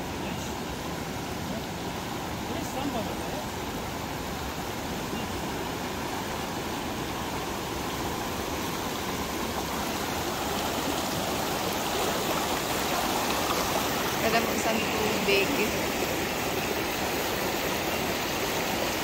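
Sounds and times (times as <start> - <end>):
river rapids rushing over rocks: 0.0 - 19.0.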